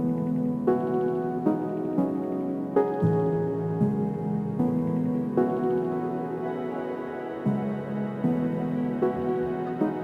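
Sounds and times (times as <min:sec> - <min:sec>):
soft keyboard music: 0:00.0 - 0:10.0.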